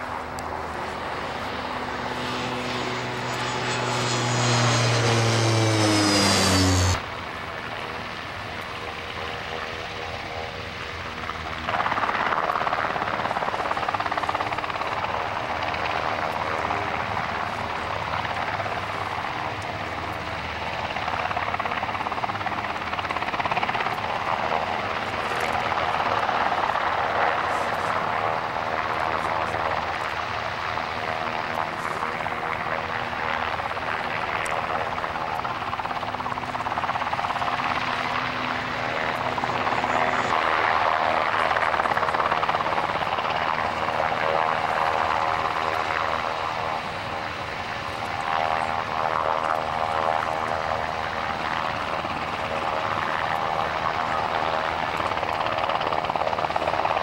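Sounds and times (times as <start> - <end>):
helicopter turbines and rotor: 0.0 - 57.0
turboprop aircraft passing overhead: 0.0 - 57.0.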